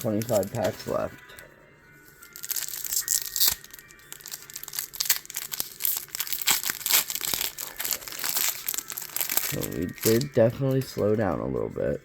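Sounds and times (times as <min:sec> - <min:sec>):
foil wrappers crinkling: 0:00.0 - 0:01.1, 0:02.1 - 0:11.6.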